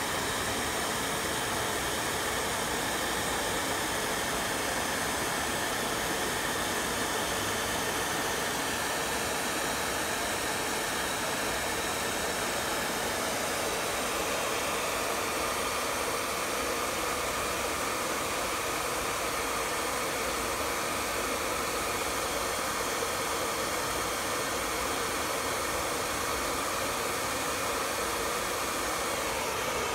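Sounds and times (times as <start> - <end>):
hair dryer blowing air: 0.0 - 29.9.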